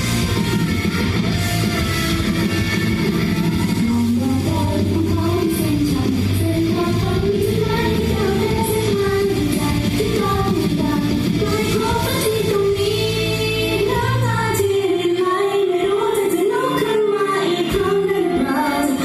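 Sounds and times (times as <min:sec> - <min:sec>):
pop song with female vocals: 0:03.4 - 0:19.0.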